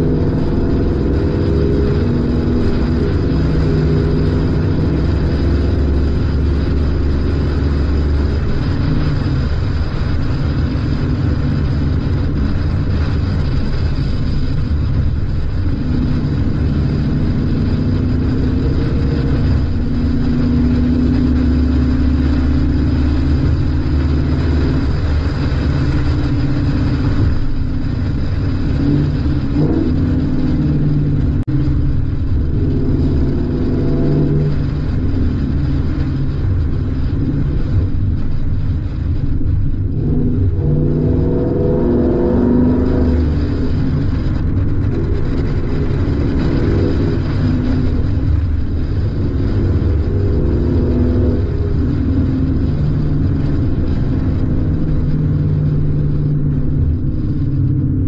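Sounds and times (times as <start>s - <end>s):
car exhaust note: 0.0s - 58.0s
wind and road noise: 0.0s - 58.0s.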